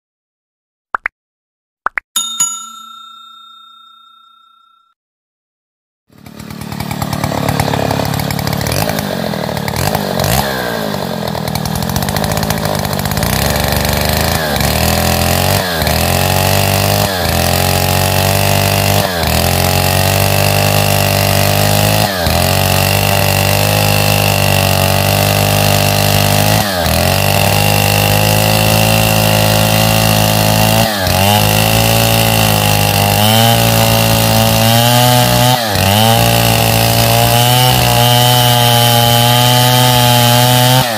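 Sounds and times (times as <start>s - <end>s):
chainsaw cutting log: 6.1s - 40.9s.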